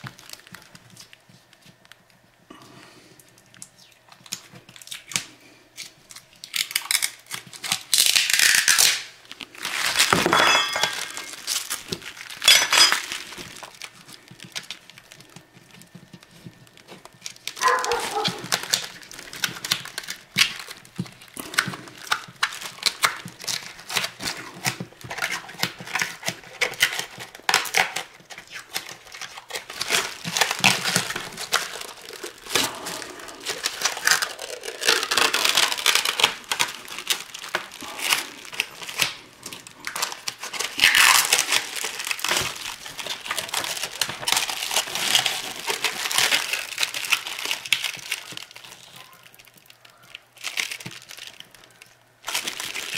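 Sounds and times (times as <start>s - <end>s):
plastic bag crinkling: 0.0s - 2.6s, 3.2s - 52.9s.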